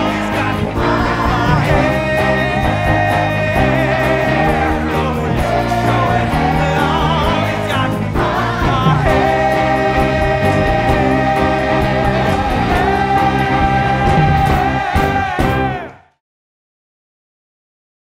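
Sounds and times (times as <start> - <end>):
rock band with electric guitar: 0.0 - 16.0.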